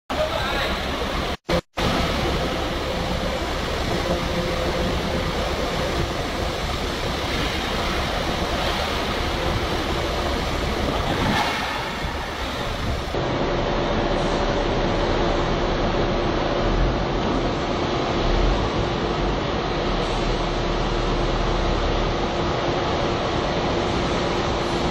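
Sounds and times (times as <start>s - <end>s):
machinery rush with faint hum: 0.1s - 24.9s.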